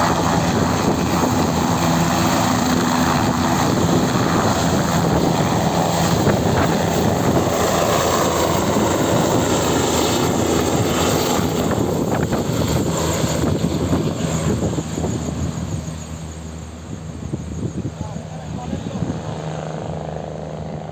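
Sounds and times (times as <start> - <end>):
helicopter flying: 0.0 - 20.9.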